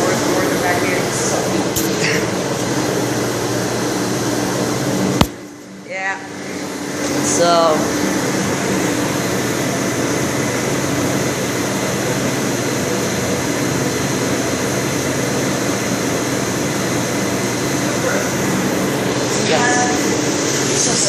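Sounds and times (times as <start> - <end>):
dishwasher motor hum: 0.0 - 21.0.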